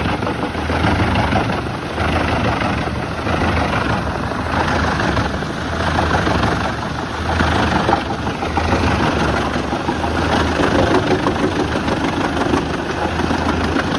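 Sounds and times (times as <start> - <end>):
tractor engine drone: 0.0 - 13.9
wood chipper grinding logs: 0.0 - 13.9.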